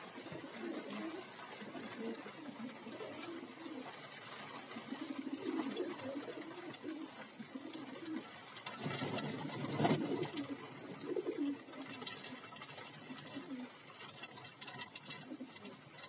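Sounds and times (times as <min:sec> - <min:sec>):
pigeons cooing: 0:00.0 - 0:16.0
wings flapping: 0:00.0 - 0:16.0.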